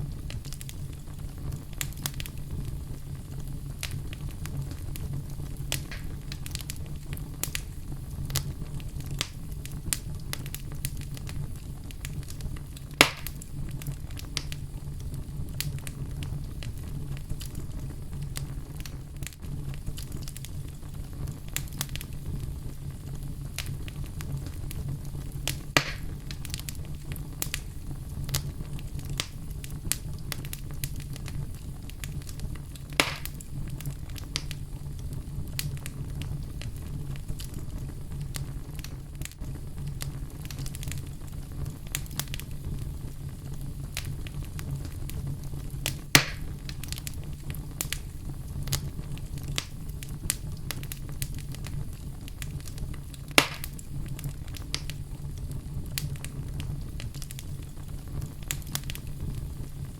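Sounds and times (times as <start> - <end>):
fire crackling: 0.0 - 59.9
loud fire pops: 0.0 - 59.9.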